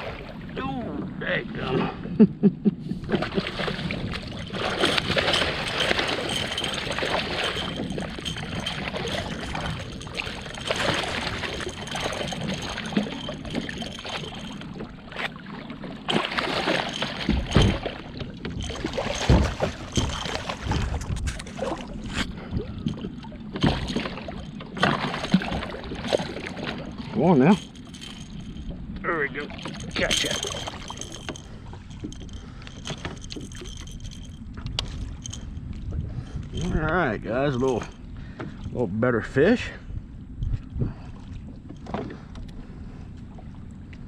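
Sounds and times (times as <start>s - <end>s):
strong wind: 0.0s - 15.0s, 16.4s - 43.7s
water lapping against kayak hull: 0.0s - 39.0s, 39.9s - 44.0s.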